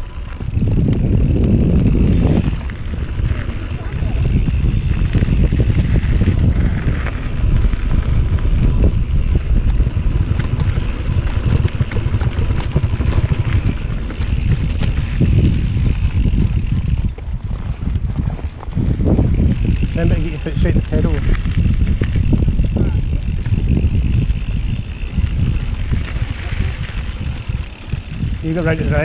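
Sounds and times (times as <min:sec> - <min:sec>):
bike rattles and clicks: 0:00.0 - 0:29.0
wind and tyre rumble: 0:00.0 - 0:29.0.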